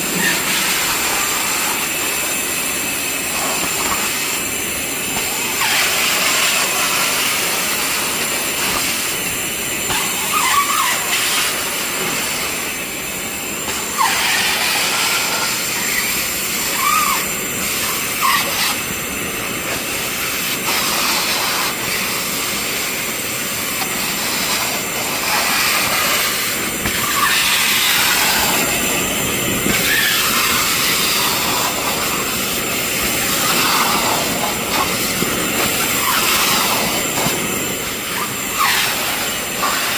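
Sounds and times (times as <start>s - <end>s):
vacuum cleaner sucking water: 0.0s - 39.9s.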